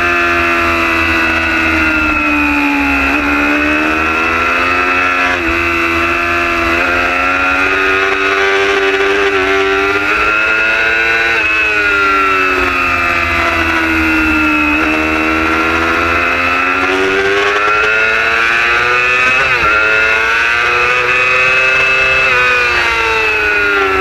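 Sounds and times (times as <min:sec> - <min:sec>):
motorcycle engine at speed: 0:00.0 - 0:24.0.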